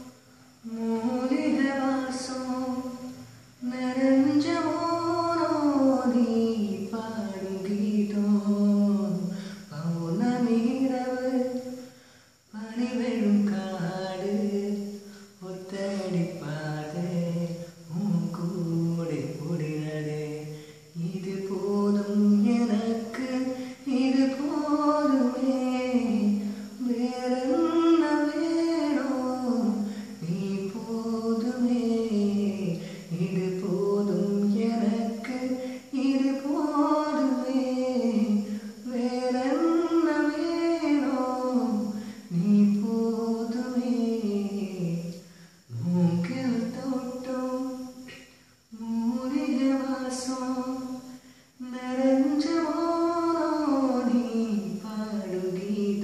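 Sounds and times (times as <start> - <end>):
man singing unaccompanied: 0.0 - 11.8, 12.5 - 56.0.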